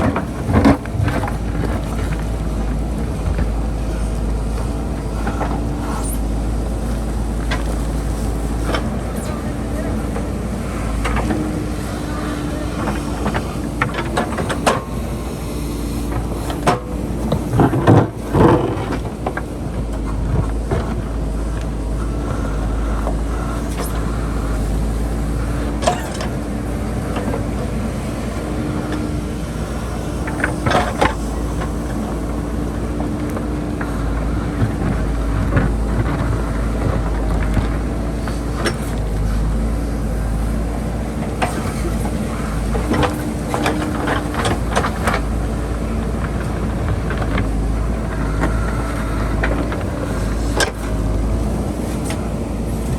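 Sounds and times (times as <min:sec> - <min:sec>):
diesel engine running under load: 0:00.0 - 0:52.9
digging knocks and scrapes: 0:00.0 - 0:52.9.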